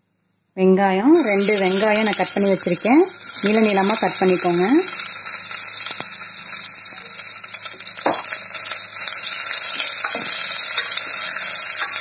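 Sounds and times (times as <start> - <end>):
onions sizzling in oil: 1.1 - 12.0.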